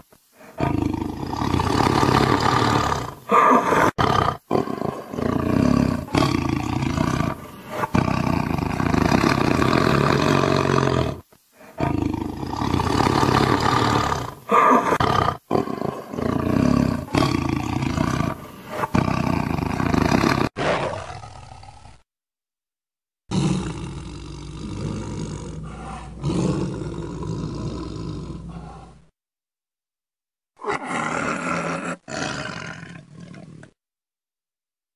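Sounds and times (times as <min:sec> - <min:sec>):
tiger roaring: 0:00.5 - 0:22.0, 0:23.3 - 0:29.0, 0:30.6 - 0:33.8.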